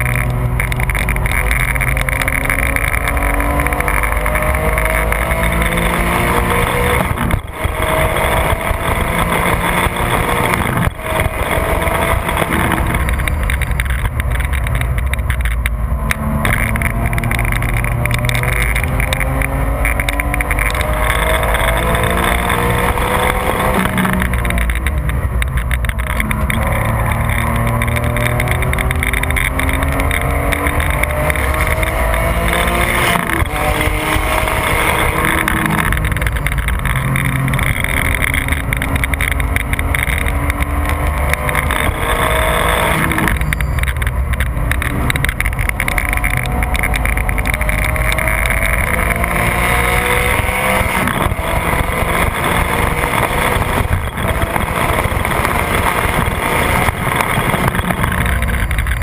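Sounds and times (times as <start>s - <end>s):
car engine accelerating hard: 0.0s - 59.0s
wind and tyre noise: 0.0s - 59.0s.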